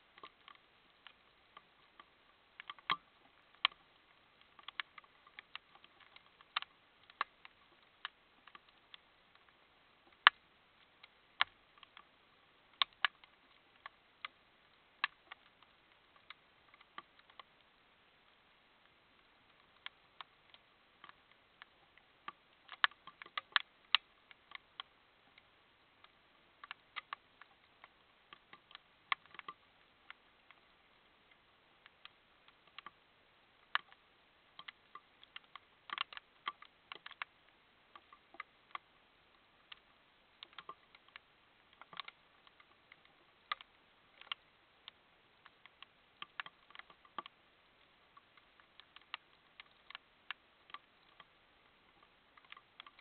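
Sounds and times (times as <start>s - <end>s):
faint steady hiss: 0.0s - 53.0s
sharp clicks and ticks: 0.2s - 12.1s, 12.7s - 33.0s, 33.6s - 53.0s.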